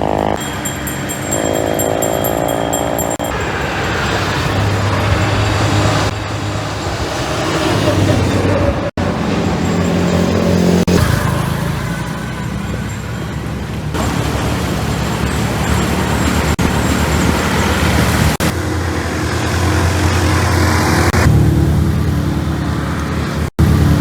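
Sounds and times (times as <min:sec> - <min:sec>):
scooter engine running: 0:00.0 - 0:24.0
wind and road noise: 0:00.0 - 0:24.0.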